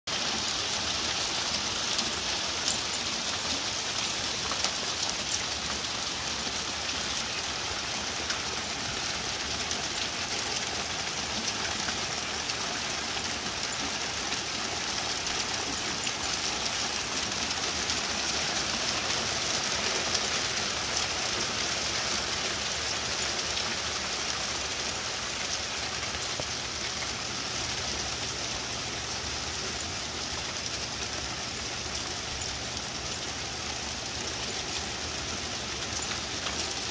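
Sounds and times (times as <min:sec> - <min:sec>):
hail falling on wood and lawn: 0:00.1 - 0:36.9.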